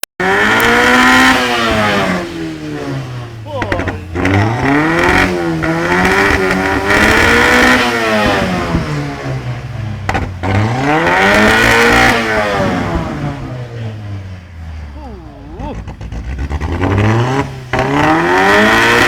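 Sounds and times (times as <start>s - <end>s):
car engine revving hard: 0.2s - 19.0s.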